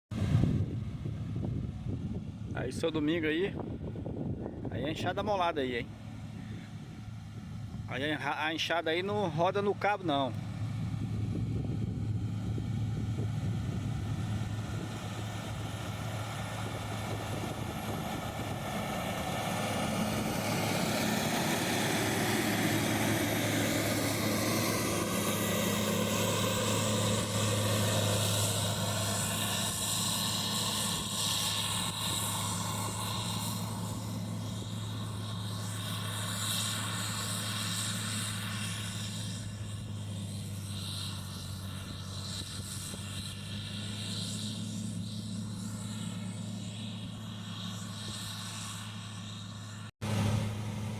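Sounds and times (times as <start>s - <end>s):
diesel engine humming: 0.1s - 50.9s.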